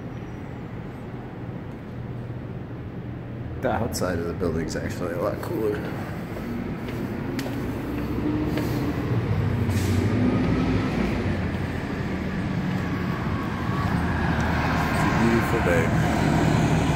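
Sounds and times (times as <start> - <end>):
bus engine rumbling: 0.0 - 16.9.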